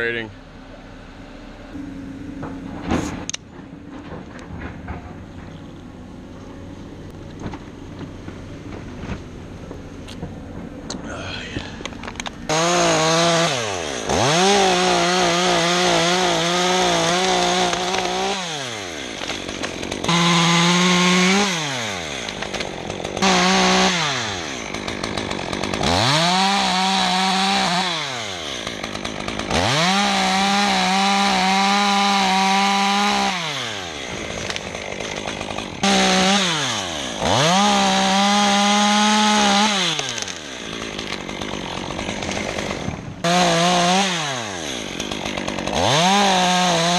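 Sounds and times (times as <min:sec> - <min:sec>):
chainsaw revving cutting wood: 0:06.8 - 0:46.9.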